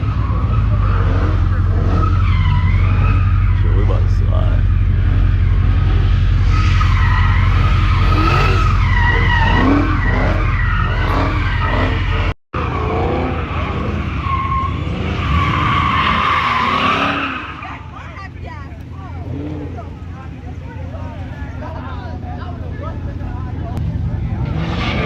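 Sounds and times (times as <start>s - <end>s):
car engine revving: 0.0s - 25.0s
car tyres squealing: 0.0s - 25.0s.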